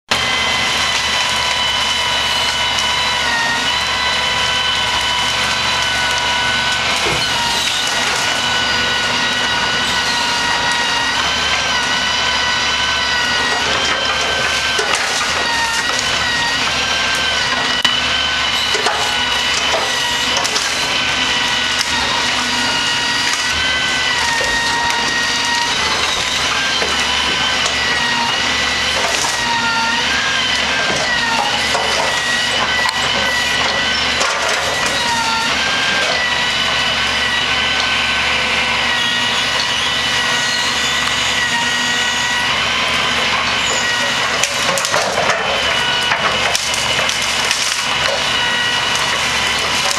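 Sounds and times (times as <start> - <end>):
truck engine and hydraulics whine: 0.1 - 49.9
branches cracking and splintering: 0.7 - 36.4, 43.5 - 49.9.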